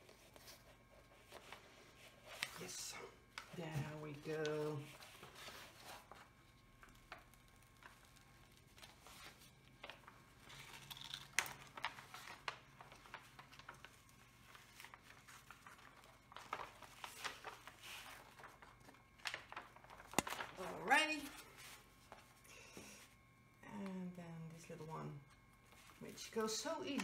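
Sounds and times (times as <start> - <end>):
plastic sheet rustling and crinkling: 0.0 - 22.4, 24.8 - 27.0.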